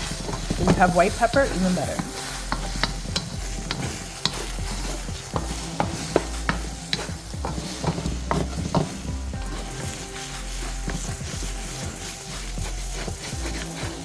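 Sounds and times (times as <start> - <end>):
food sizzling in oil: 0.0 - 14.0
utensil scraping and tapping pan: 0.0 - 14.0.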